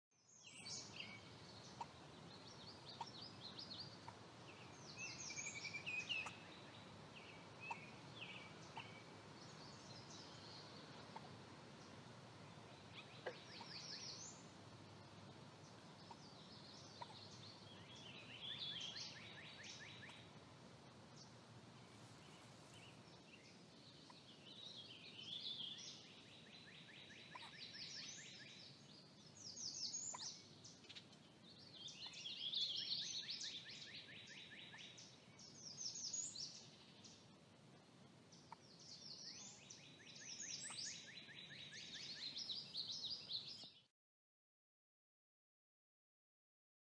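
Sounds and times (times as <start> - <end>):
songbirds singing and trilling: 0.2 - 43.9.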